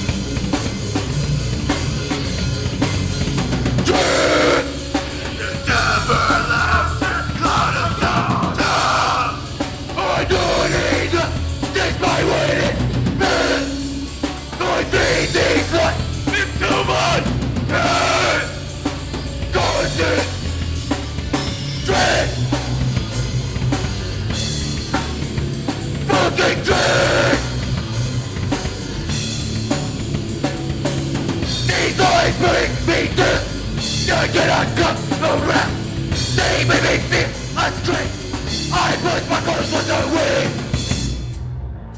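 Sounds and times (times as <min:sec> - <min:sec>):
band playing heavy rock: 0:00.0 - 0:41.4.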